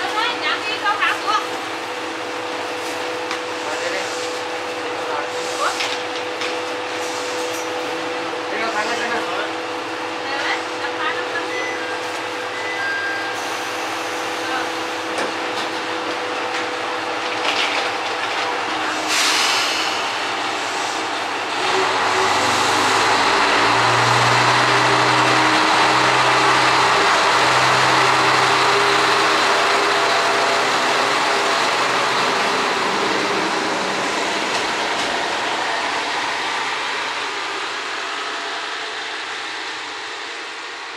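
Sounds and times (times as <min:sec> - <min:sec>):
diesel railcar engine accelerating: 0:00.0 - 0:40.9.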